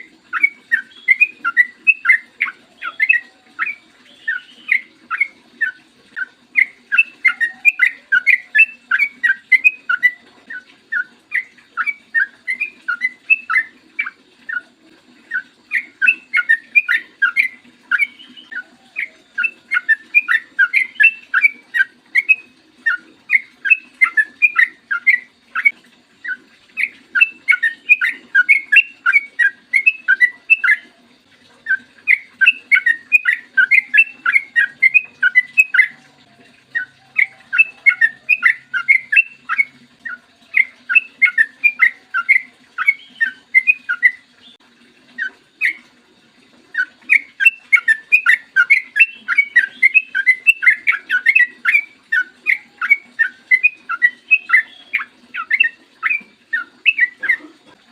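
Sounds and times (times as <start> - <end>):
bulbul singing rapid chirps: 0.0 - 14.6, 15.3 - 30.9, 31.7 - 36.1, 36.7 - 44.6, 46.8 - 57.4.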